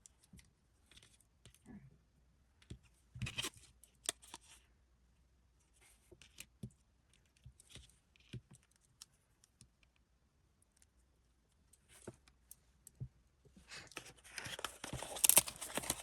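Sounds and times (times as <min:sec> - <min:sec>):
faint packaging clicks and rustles: 0:00.0 - 0:01.8, 0:02.6 - 0:04.7, 0:05.6 - 0:16.0.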